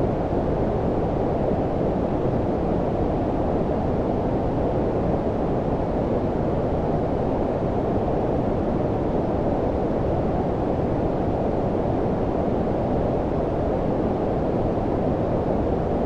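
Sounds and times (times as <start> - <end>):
low rumbling brown noise: 0.0 - 16.0.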